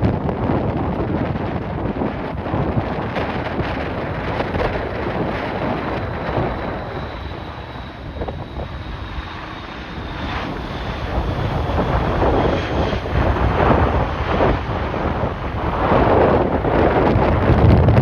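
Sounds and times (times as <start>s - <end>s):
wind buffeting microphone: 0.0s - 18.0s
jet engines whining: 0.3s - 18.0s.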